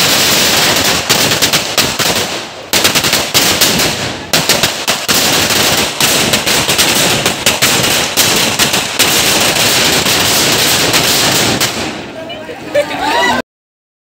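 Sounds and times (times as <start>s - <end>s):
firecrackers crackling: 0.0s - 13.2s.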